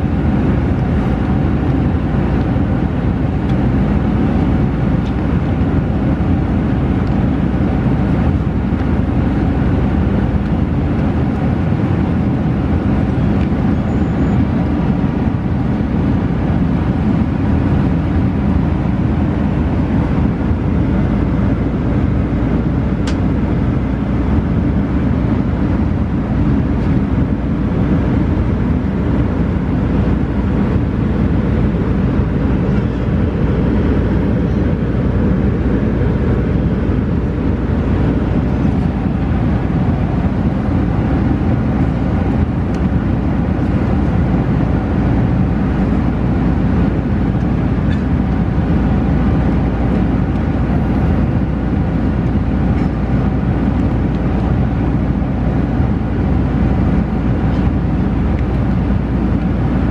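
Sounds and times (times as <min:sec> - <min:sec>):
airliner cabin rumble: 0:00.0 - 0:59.9.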